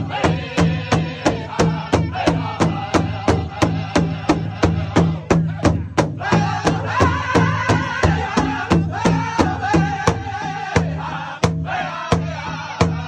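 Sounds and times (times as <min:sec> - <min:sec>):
drum group singing in unison: 0:00.0 - 0:13.0
large drum steady beat: 0:00.0 - 0:13.0.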